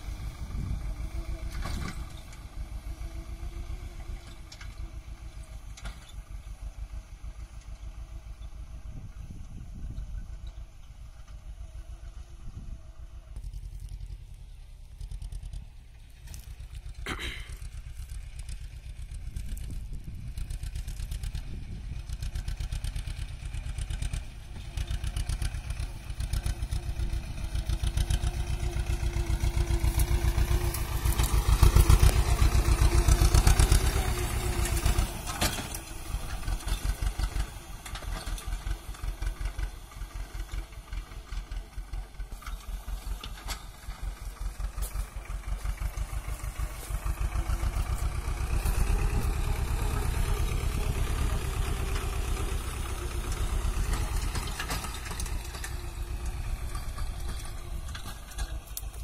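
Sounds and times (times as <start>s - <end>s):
diesel tractor engine: 0.0s - 59.0s.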